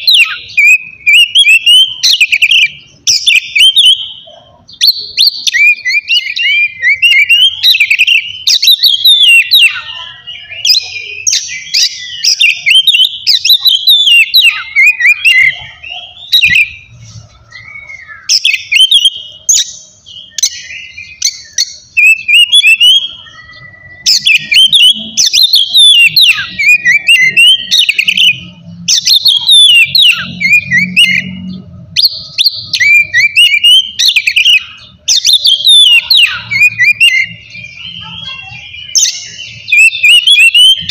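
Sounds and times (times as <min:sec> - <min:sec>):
magpie-robin singing: 0:00.0 - 0:40.9.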